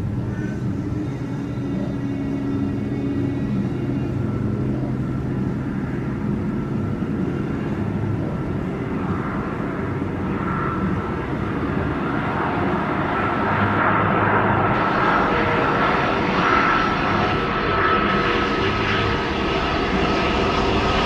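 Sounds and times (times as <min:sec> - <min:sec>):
jet engines rushing and whining: 0:00.0 - 0:21.0.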